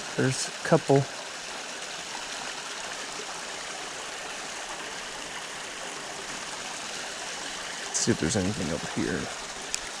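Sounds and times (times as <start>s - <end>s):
creek water running over rocks: 0.0s - 10.0s.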